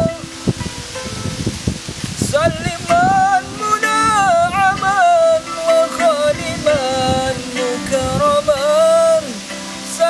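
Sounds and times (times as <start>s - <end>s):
man singing ornamented melody: 0.0s - 1.1s, 2.0s - 10.0s
plucked zither: 0.0s - 10.0s.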